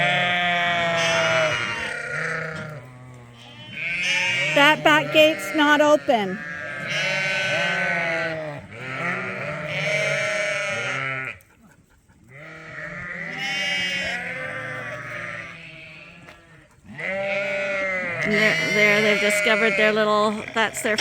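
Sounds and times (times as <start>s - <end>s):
ewes bleating: 0.0s - 11.4s, 12.3s - 21.0s.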